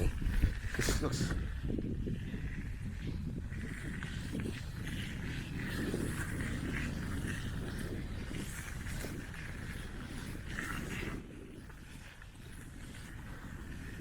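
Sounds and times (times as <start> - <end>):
bicycle rattling and rolling: 0.0 - 14.0
wind rumble on microphone: 0.0 - 14.0.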